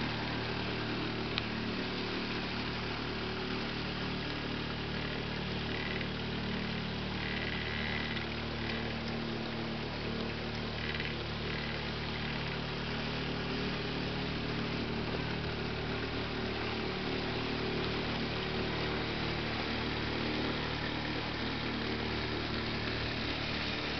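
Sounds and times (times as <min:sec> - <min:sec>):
motorboat engine running: 0:00.0 - 0:23.9
steady hiss: 0:00.0 - 0:23.9.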